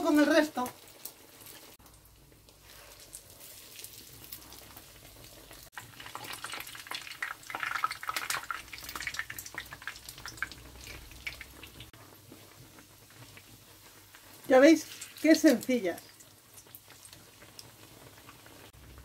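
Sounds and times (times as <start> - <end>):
bread frying in oil: 0.0 - 19.0.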